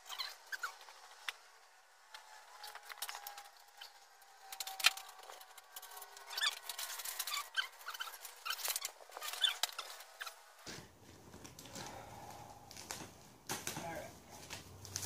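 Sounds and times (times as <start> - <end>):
plastic wrapping crinkling: 2.7 - 15.0.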